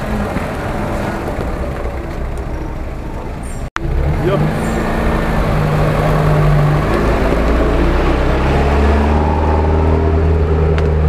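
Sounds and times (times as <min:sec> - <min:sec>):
truck engines droning: 0:00.0 - 0:11.0.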